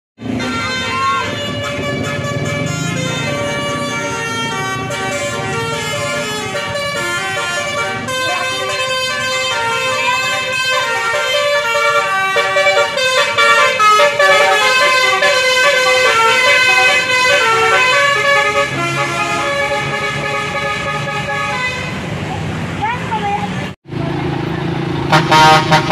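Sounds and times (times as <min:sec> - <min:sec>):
musical bus horn tune: 0:00.2 - 0:22.0, 0:25.1 - 0:25.9.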